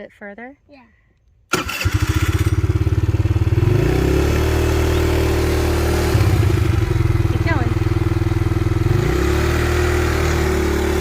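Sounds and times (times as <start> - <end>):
small vehicle engine running: 1.5 - 11.0.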